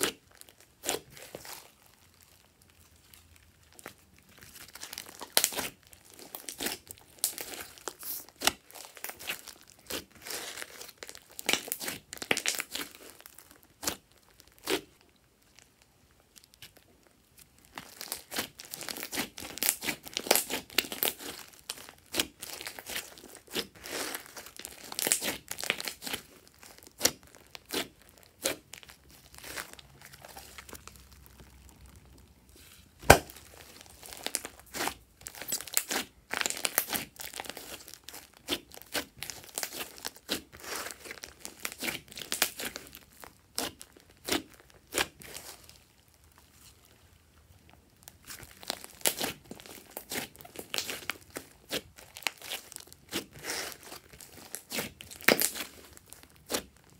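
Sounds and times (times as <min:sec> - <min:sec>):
slime crackling and popping: 0:00.0 - 0:56.9.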